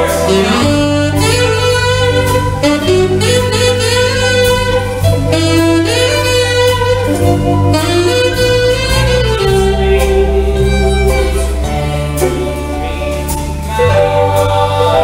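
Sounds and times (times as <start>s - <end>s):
bass guitar: 0.0s - 15.0s
drums: 0.0s - 15.0s
saxophone melody: 0.0s - 15.0s.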